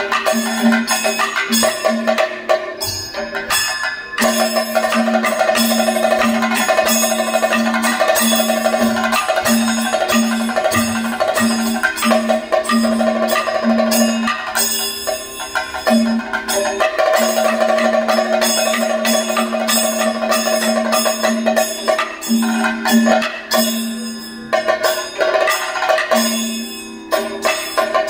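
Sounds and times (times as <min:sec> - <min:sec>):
fast percussion strokes: 0:00.0 - 0:28.0
ringing gong and cymbal hits: 0:00.0 - 0:28.0.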